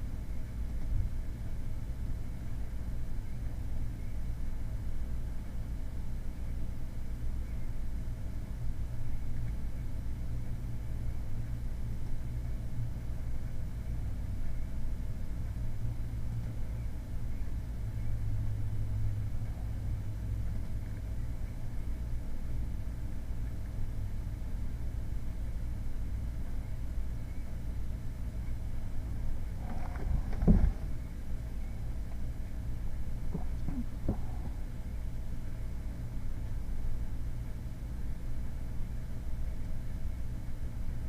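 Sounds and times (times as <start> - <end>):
low background rumble: 0.0 - 41.0.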